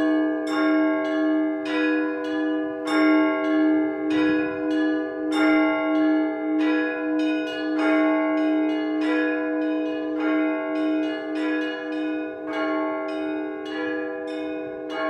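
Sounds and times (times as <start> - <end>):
large bell ringing: 0.0 - 15.0
small church bells struck: 0.0 - 15.0.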